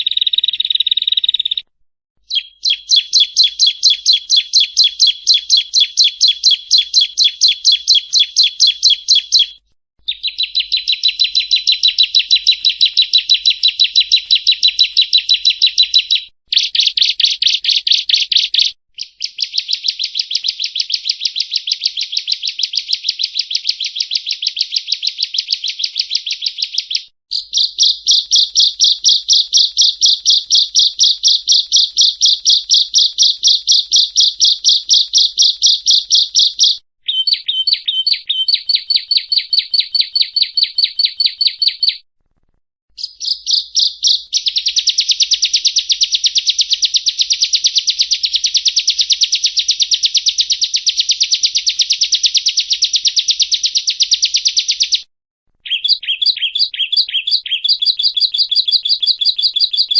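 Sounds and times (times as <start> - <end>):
bird rapid high chirping: 0.0 - 1.6, 2.2 - 42.0, 43.0 - 55.0, 55.6 - 59.9.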